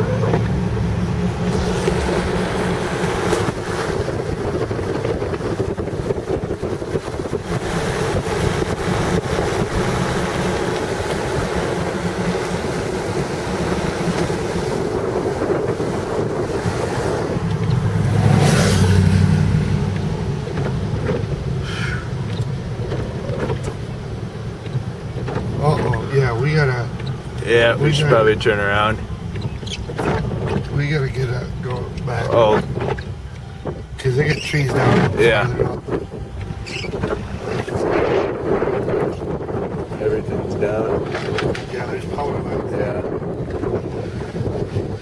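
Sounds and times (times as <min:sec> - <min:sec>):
engine and road rumble: 0:00.0 - 0:45.0
wind buffeting microphone: 0:00.0 - 0:45.0.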